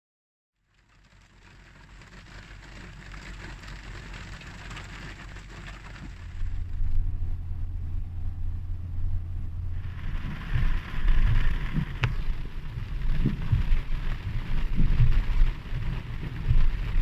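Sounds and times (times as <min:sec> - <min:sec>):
rain falling: 0:00.6 - 0:17.0
low rumble: 0:02.4 - 0:17.0.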